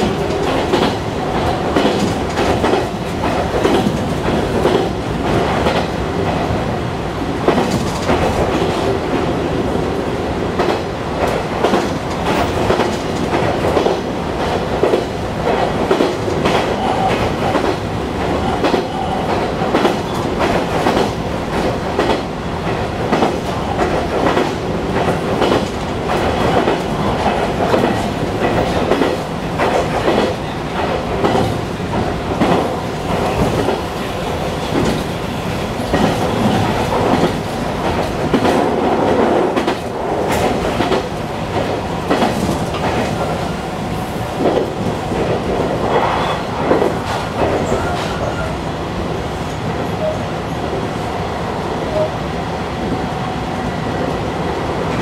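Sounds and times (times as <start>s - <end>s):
electric train running on rails: 0.0s - 55.0s.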